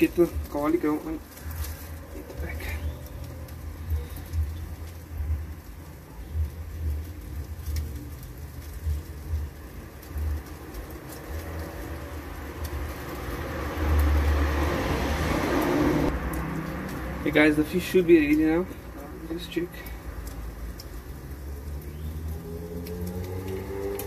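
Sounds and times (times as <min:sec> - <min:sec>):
fire crackling and popping: 0:00.0 - 0:24.0
flames rumbling: 0:00.0 - 0:24.0.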